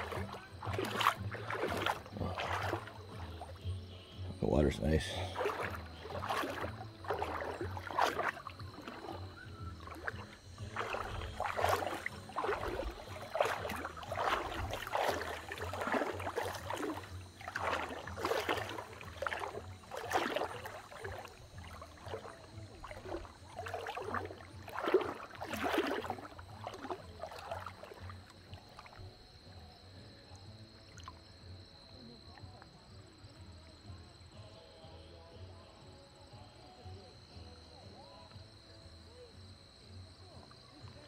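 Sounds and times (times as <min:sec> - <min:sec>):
water sloshing around wading legs: 0:00.0 - 0:34.4.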